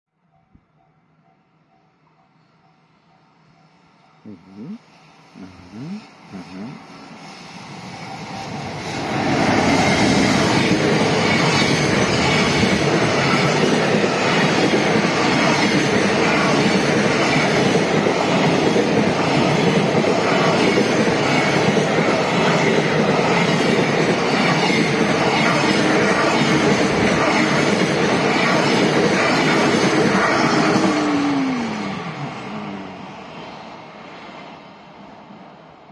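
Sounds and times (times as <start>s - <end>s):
freight train passing: 0.3s - 35.9s.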